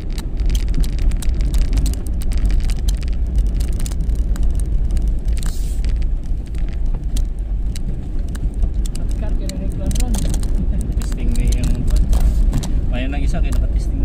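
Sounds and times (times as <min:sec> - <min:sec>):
quick clicks and rattles: 0:00.0 - 0:13.7
vehicle rumbling off-road: 0:00.0 - 0:14.0.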